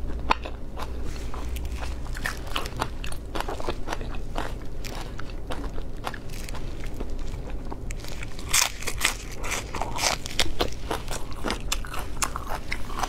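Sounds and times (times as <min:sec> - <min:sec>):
crunchy vegetable chewing: 0:00.0 - 0:13.0.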